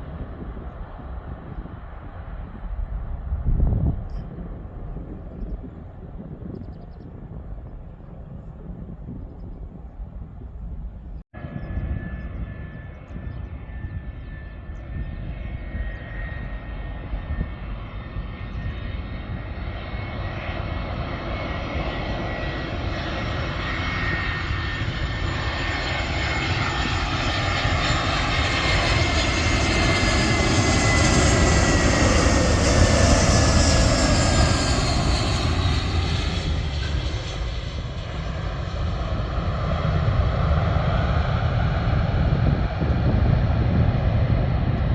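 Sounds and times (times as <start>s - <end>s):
jet airliner passing by: 0.0s - 44.9s.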